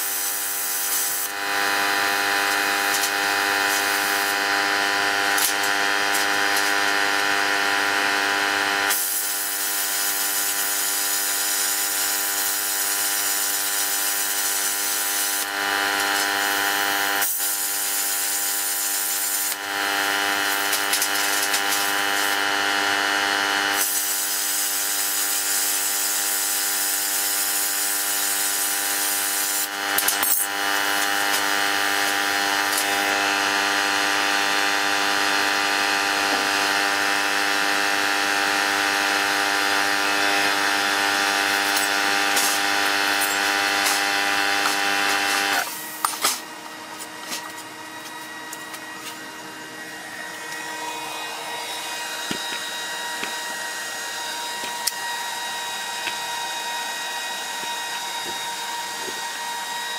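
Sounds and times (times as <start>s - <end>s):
plasma cutter hissing and whining: 0.0s - 59.9s.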